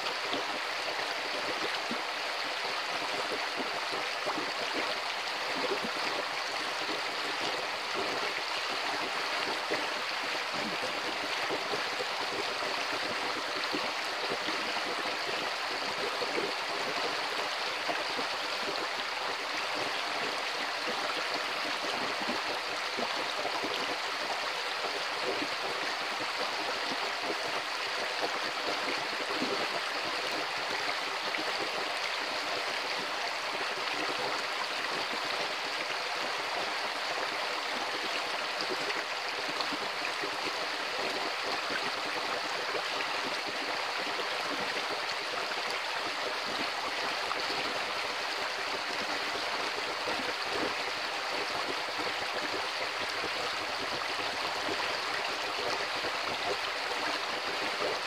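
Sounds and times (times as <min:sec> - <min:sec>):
creek water rushing and splashing: 0:00.0 - 0:58.0.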